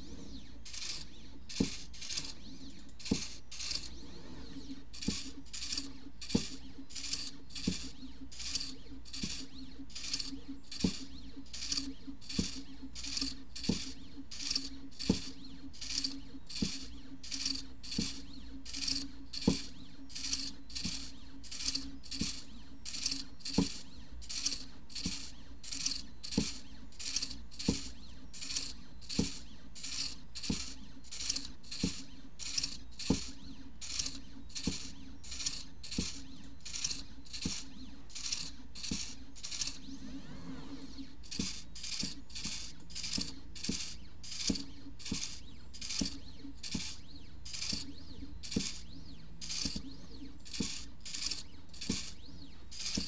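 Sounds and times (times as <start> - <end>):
low hum: 0.0 - 52.8
pen scratching on paper: 0.7 - 2.4, 3.0 - 39.9, 41.2 - 47.9, 48.5 - 49.8, 50.5 - 52.2, 52.8 - 53.0.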